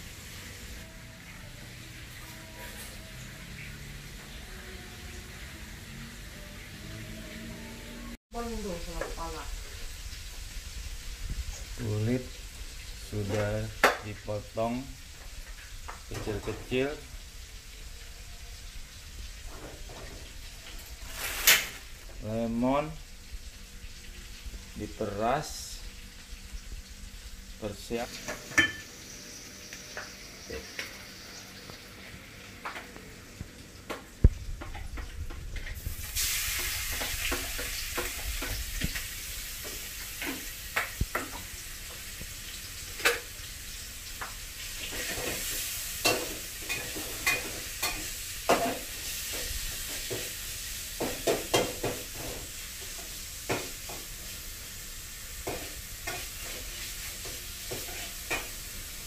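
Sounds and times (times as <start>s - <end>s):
food sizzling while frying: 0.0s - 59.0s.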